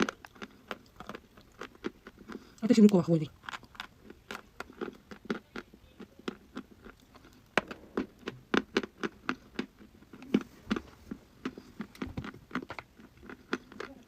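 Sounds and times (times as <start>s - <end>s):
chalk being chewed crunching: 0.0s - 14.0s.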